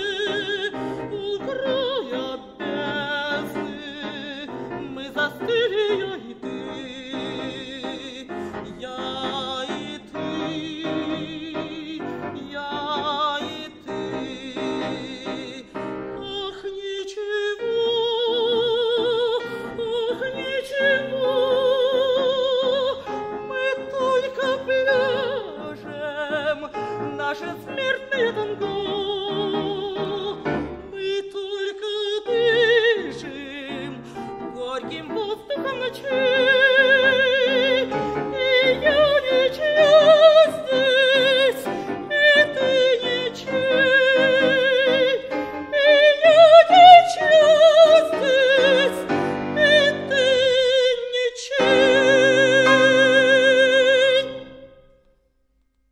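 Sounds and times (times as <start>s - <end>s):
tango accompaniment: 0.0s - 16.2s, 18.9s - 31.1s, 32.2s - 51.0s
woman singing operatically: 0.0s - 54.7s.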